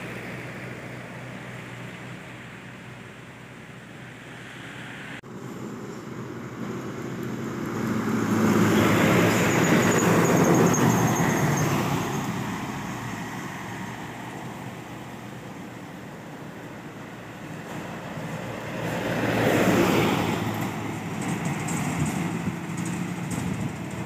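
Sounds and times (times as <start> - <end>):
heavy trucks driving past: 0.0 - 24.0.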